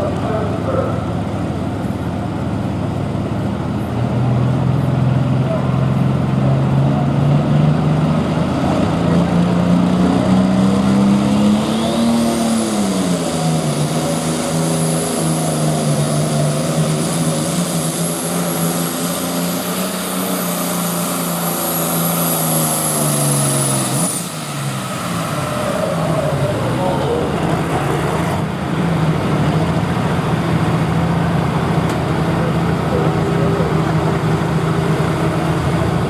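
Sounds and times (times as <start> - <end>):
tractor engine running hard: 0.0 - 36.0.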